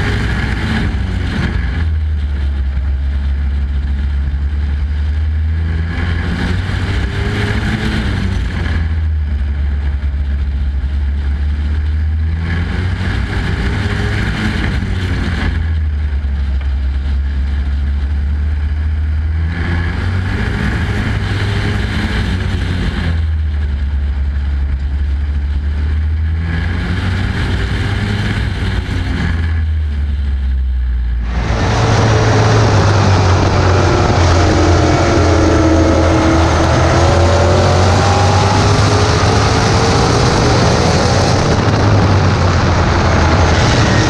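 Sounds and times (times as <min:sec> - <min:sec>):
race car engine at speed: 0:00.0 - 0:44.0
race truck engine at speed: 0:00.0 - 0:44.0.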